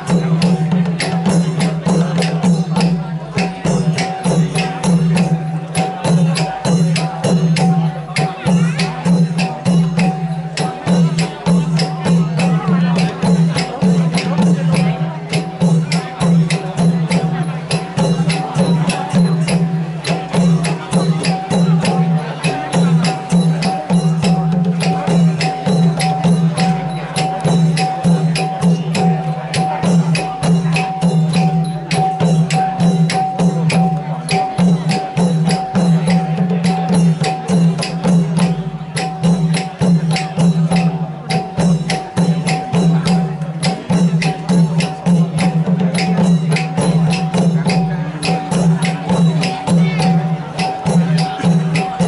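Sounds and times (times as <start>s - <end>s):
drums: 0.0s - 52.0s.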